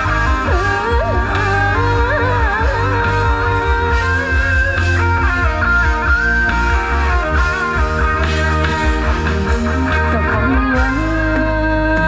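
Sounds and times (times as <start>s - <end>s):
loud music over loudspeakers: 0.0s - 12.0s.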